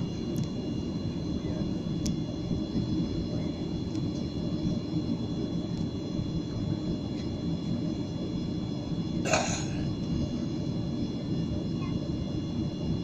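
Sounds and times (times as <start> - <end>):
aircraft cabin low rumble: 0.0 - 13.0
faint high whine: 0.0 - 13.0.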